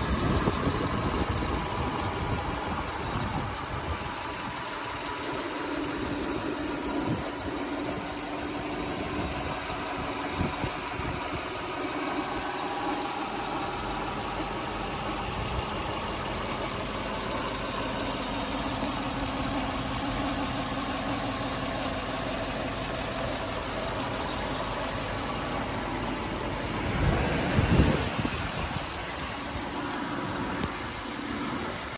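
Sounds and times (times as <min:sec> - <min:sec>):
car engine idling: 0:00.0 - 0:31.9
low engine rumble: 0:00.0 - 0:31.9.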